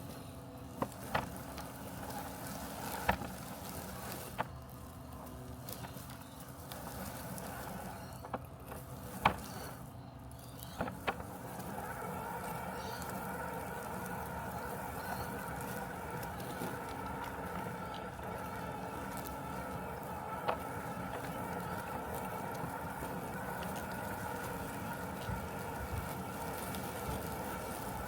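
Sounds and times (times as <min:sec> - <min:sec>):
robotic lawn mower humming: 0:00.0 - 0:28.0.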